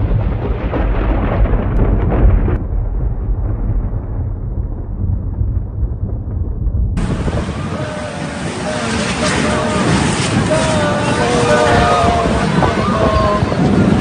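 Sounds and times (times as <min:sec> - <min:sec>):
thunder rumbling: 0:00.0 - 0:14.0
wind: 0:00.0 - 0:14.0.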